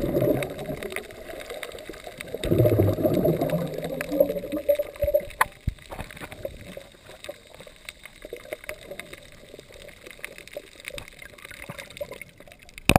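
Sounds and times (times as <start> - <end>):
crackling clicks: 0.0 - 12.9
underwater sea water wash: 0.0 - 12.9.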